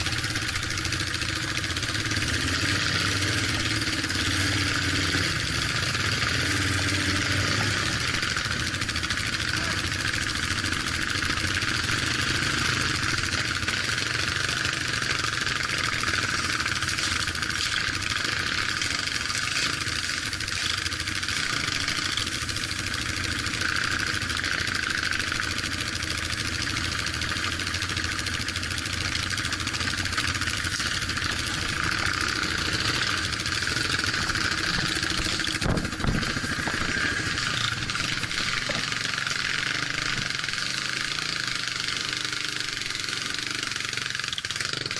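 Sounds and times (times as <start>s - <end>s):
road and drive noise: 0.0s - 44.9s
vehicle engine running: 0.0s - 44.9s.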